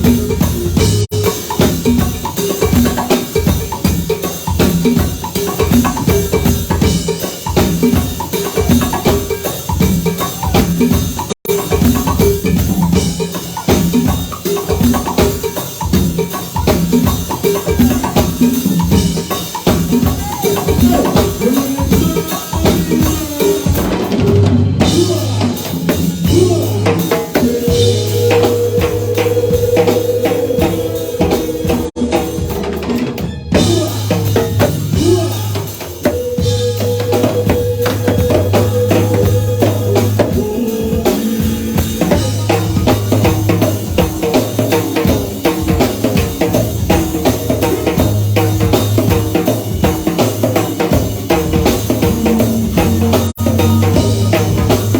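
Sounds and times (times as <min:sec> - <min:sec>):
drum kit beat: 0:00.0 - 0:54.9
live band music: 0:00.0 - 0:54.9.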